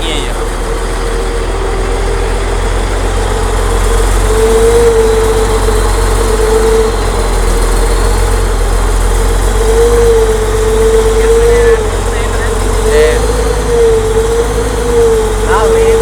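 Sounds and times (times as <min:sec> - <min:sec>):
high whine: 0:00.0 - 0:16.0
truck engine droning: 0:00.0 - 0:16.0.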